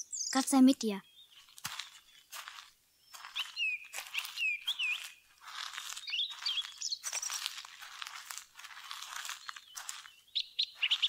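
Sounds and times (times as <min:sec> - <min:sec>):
small bird chirping: 0:00.0 - 0:11.0
footsteps crunching: 0:01.2 - 0:11.0.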